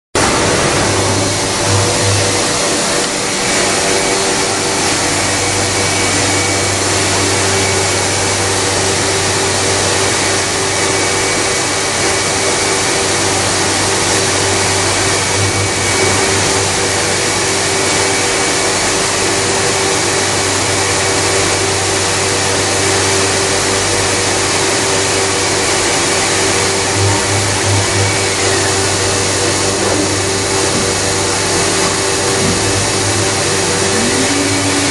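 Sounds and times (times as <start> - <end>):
constant hum: 0.2 - 20.9, 21.8 - 34.9
machine whirring: 0.2 - 34.9.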